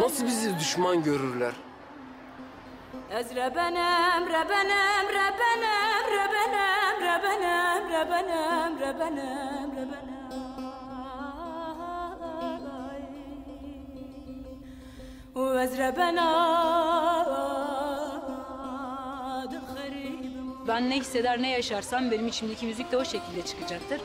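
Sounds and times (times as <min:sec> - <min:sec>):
person singing ornamented melody: 0:03.0 - 0:14.6, 0:15.3 - 0:24.0.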